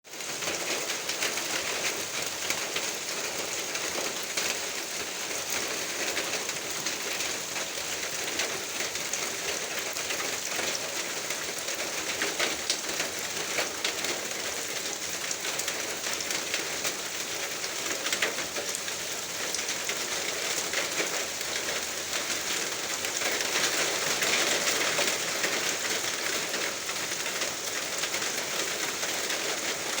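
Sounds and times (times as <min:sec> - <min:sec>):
raindrops pattering on surfaces: 0:00.1 - 0:30.0
steady rain hiss: 0:00.3 - 0:30.0.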